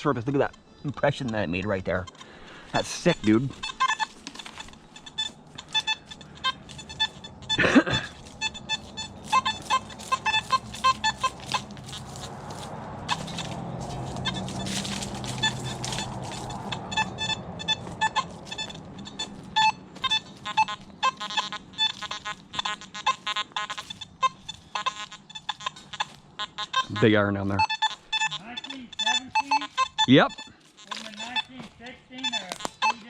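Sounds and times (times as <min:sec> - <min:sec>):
metal detector short beeps: 0:00.5 - 0:33.0.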